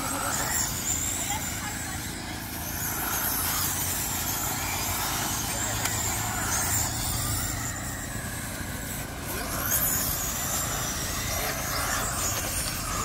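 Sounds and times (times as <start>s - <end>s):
remote control car motors whining: 0.0s - 13.0s.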